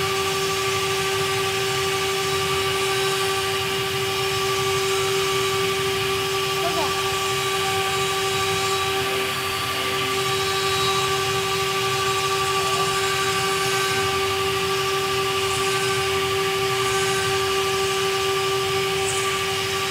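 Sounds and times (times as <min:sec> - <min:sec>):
motor whine: 0:00.0 - 0:19.9
stone cutting noise: 0:00.0 - 0:19.9.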